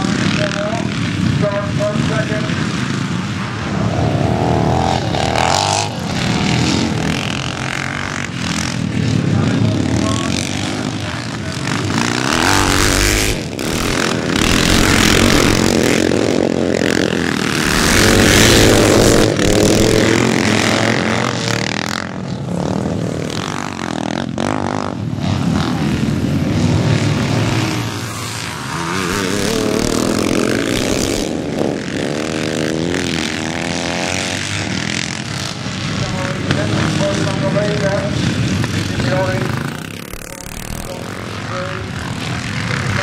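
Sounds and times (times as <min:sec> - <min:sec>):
motorcycle engines revving: 0:00.0 - 0:43.0.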